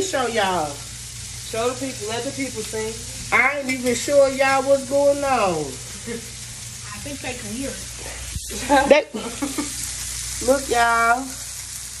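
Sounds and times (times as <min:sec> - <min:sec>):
patties sizzling on griddle: 0:00.0 - 0:12.0.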